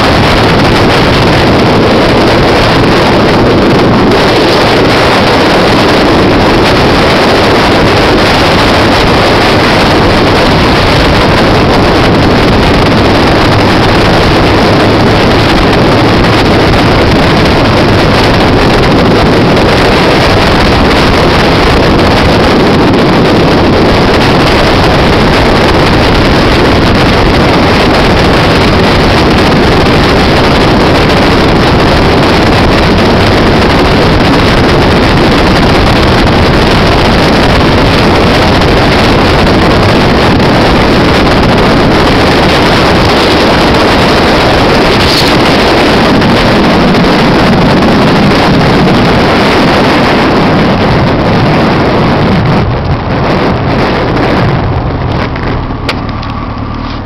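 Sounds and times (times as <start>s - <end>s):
motorcycle engine running: 0.0s - 57.0s
wind rush over microphone: 0.0s - 57.0s.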